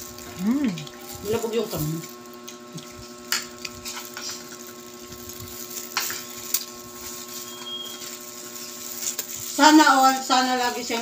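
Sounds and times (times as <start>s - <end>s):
plastic glove crinkling: 0.0s - 11.0s
steady electrical hum: 0.0s - 11.0s
chewing: 0.2s - 9.6s.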